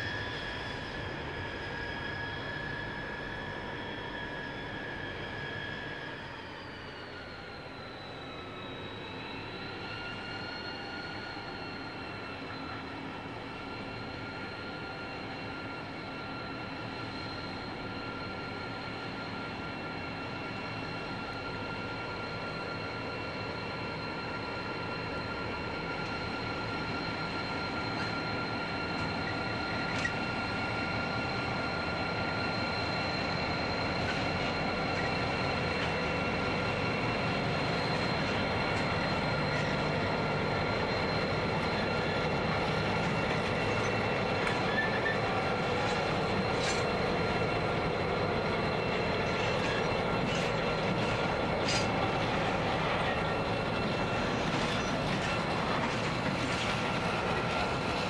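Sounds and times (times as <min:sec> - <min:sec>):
diesel locomotives rumbling past: 0:00.0 - 0:58.0
high-pitched squeal: 0:00.0 - 0:58.0.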